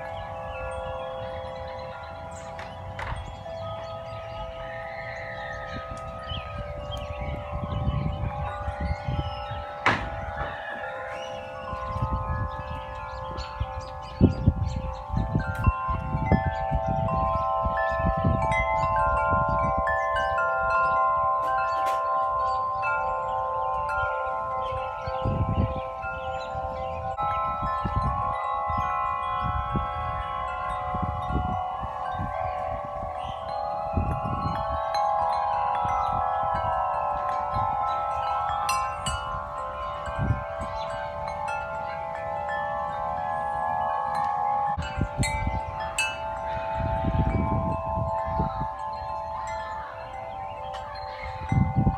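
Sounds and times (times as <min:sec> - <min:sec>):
metal-tube wind chimes ringing: 0:00.0 - 0:51.9
wind rumble on microphone: 0:00.0 - 0:51.9.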